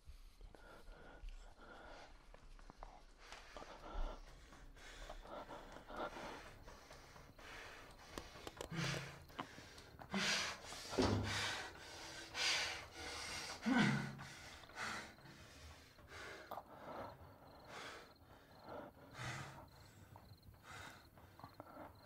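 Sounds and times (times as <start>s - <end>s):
man breathing heavily and gasping: 0.1s - 22.0s.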